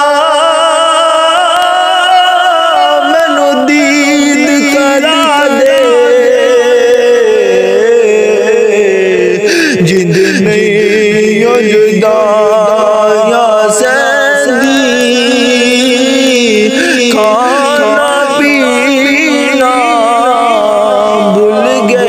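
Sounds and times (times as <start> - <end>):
man singing long held notes: 0.0 - 22.0.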